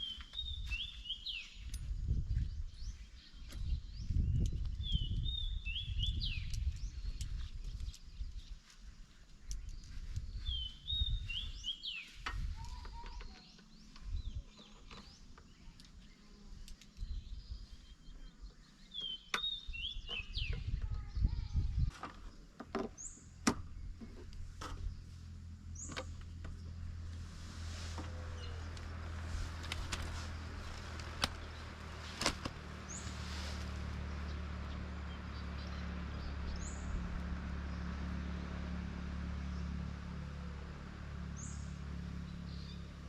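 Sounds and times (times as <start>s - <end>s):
bird chirping: 0.0s - 27.2s, 28.0s - 38.5s.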